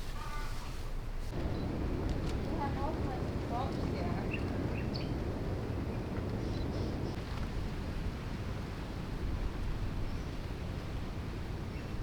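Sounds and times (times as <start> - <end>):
wind rumble on microphone: 1.3 - 12.0.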